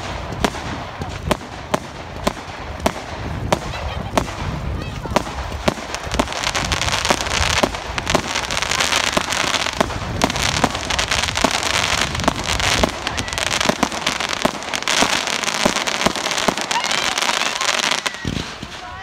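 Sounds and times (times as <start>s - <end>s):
fireworks crackling and banging: 0.0s - 19.0s.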